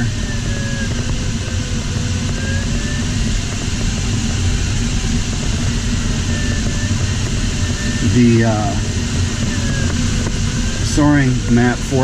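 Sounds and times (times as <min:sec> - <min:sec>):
airflow rushing in cockpit: 0:00.0 - 0:12.0
faint wavering thin tone: 0:00.0 - 0:12.0.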